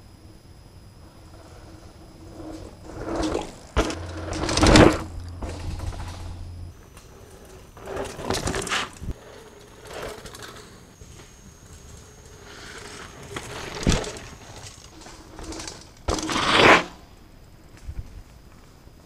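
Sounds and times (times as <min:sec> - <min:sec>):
bike tyres crunching over dirt: 0:01.0 - 0:19.0.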